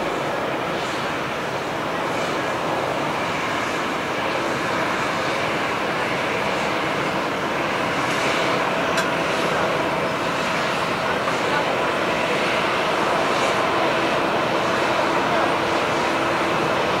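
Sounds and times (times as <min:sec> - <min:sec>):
jet engines at taxi power: 0:00.0 - 0:17.0.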